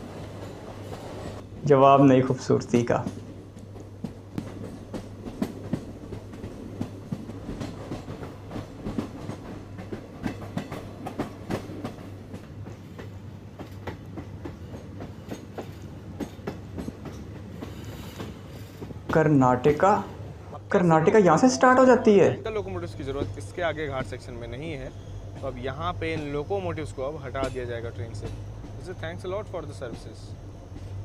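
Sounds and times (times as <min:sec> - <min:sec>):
train rumble: 0:00.0 - 0:31.0
wheels clacking over rail joints: 0:02.8 - 0:19.9, 0:22.7 - 0:31.0.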